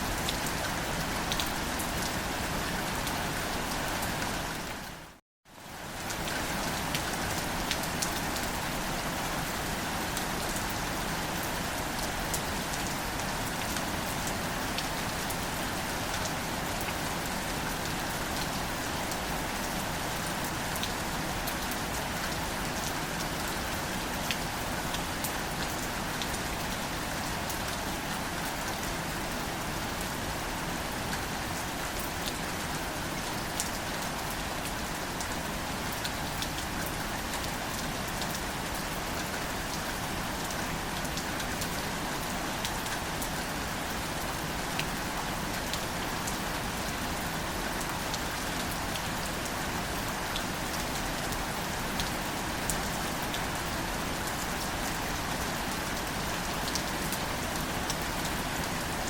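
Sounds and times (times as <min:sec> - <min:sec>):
gentle rain pattering: 0:00.0 - 0:59.0.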